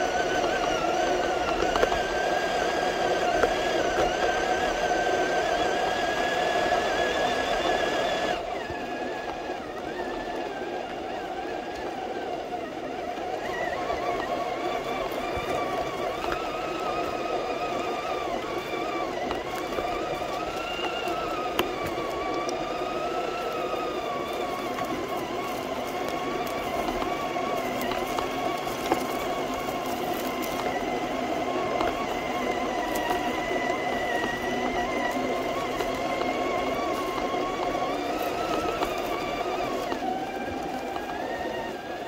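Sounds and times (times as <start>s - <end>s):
electric motor whining: 0.0s - 42.0s.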